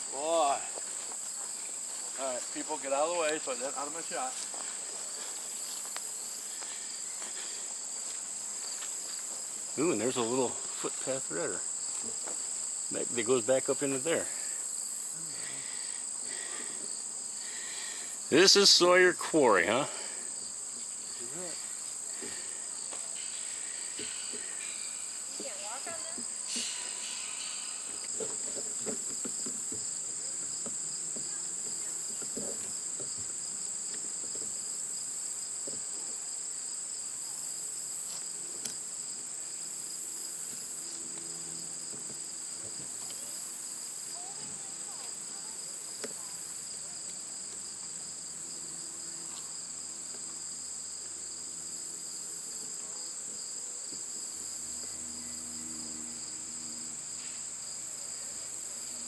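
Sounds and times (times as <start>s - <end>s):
pulsing insect trill: 0.0s - 35.6s, 36.2s - 59.0s
insects buzzing: 0.0s - 59.0s.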